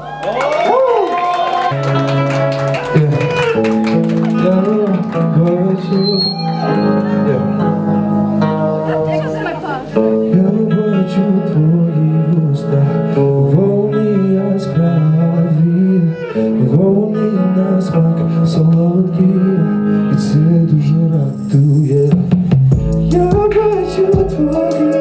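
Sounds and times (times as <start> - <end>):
instrumental backing music: 1.7 - 25.0
man singing into a microphone: 2.8 - 7.9, 10.0 - 25.0.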